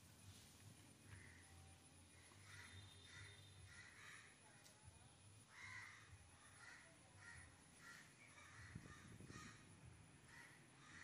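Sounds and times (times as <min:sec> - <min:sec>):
faint crows cawing: 0:01.0 - 0:11.0.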